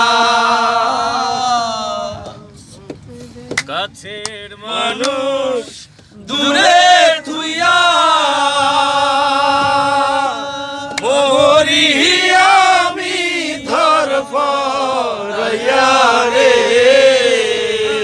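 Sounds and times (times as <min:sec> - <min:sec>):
men singing together: 0:00.0 - 0:02.6, 0:04.2 - 0:18.0.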